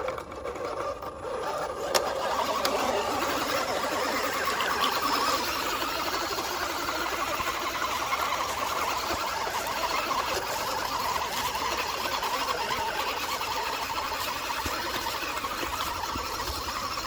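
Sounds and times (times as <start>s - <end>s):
toy truck motor whirring: 0.0s - 17.0s.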